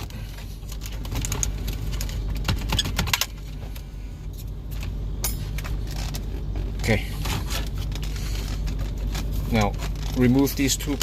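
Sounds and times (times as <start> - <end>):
car radio clicking and scraping: 0.0 - 3.6, 4.3 - 11.0
steady low hum: 0.0 - 11.0.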